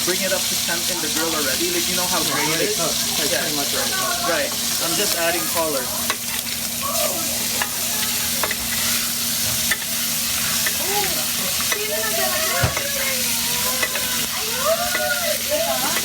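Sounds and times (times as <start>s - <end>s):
steak sizzling in a pan: 0.0s - 16.0s.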